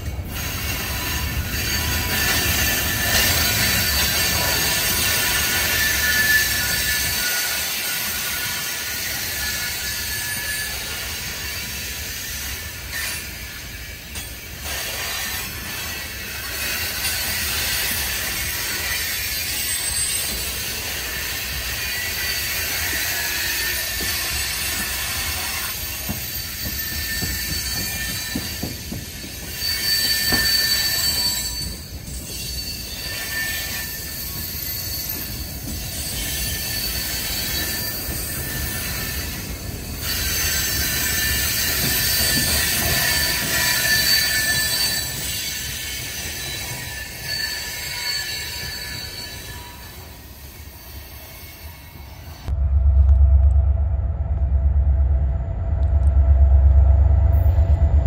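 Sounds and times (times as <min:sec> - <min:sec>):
steel wheels squealing: 0:00.0 - 0:52.5
freight train rolling past: 0:00.0 - 0:58.0.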